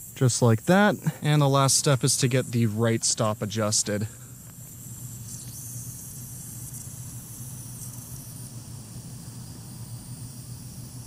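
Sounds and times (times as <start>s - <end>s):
sprinkler water streams hissing: 0.0s - 11.0s.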